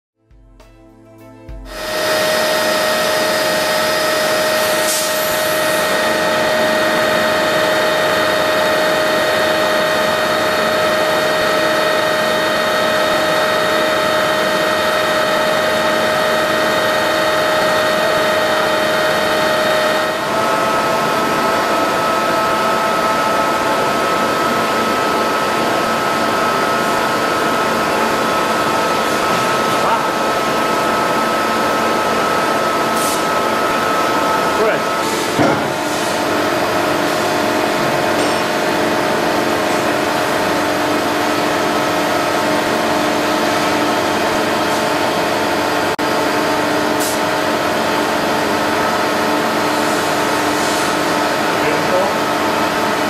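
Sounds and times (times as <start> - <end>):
machine hum and whine: 0.3 - 53.0.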